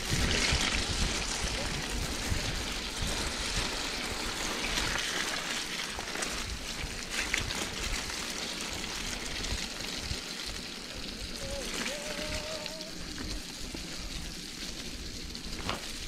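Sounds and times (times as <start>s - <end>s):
bike clicking over bumps: 0.0s - 16.0s
bike tyres splashing through mud: 0.0s - 16.0s.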